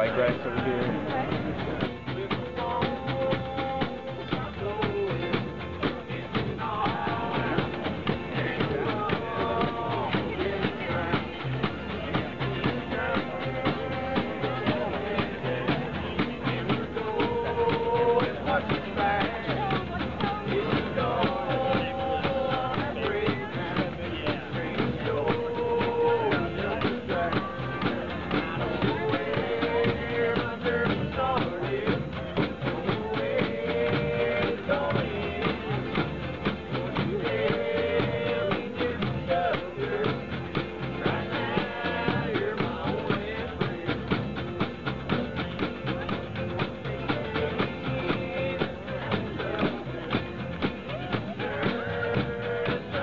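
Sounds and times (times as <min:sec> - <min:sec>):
person singing long notes: 0:00.0 - 0:53.0
rock band playing: 0:00.0 - 0:53.0.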